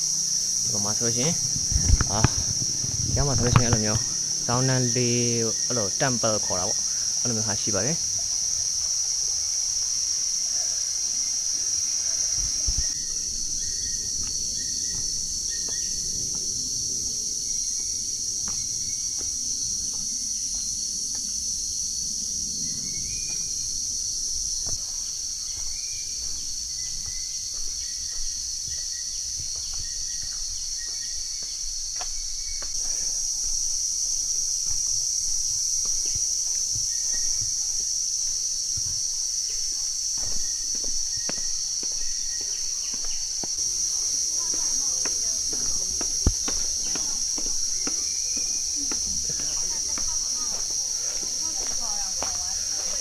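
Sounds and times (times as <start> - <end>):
insect drone: 0.0 - 53.0.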